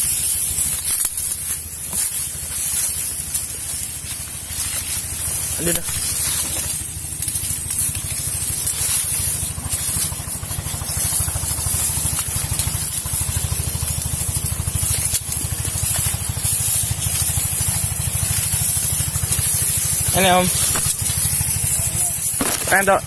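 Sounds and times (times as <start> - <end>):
constant high hiss: 0.0 - 23.0
small engine running: 0.0 - 23.0.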